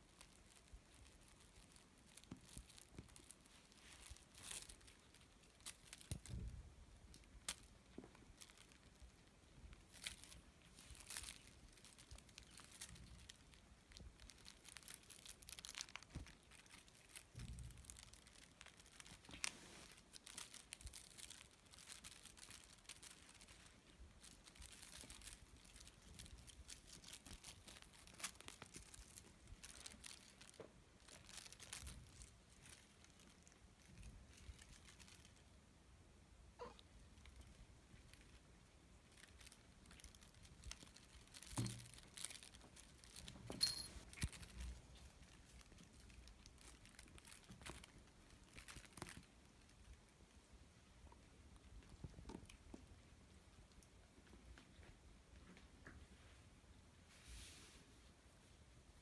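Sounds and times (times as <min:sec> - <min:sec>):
rustling and crinkling: 0:00.0 - 0:35.8, 0:36.5 - 0:59.0.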